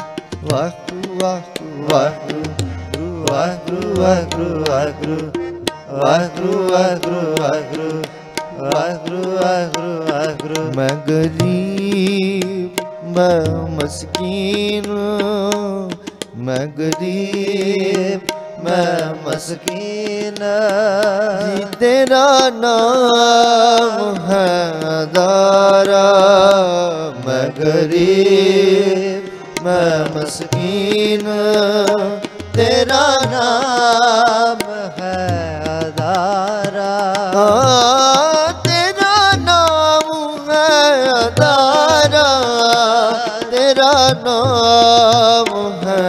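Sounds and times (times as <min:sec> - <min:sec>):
harmoniums playing: 0:00.0 - 0:46.0
tabla strokes: 0:00.0 - 0:46.0.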